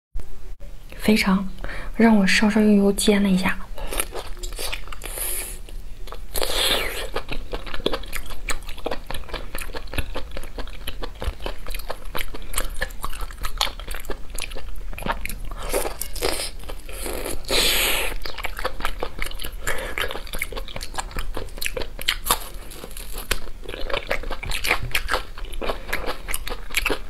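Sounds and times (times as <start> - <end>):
person chewing food: 3.8 - 27.0.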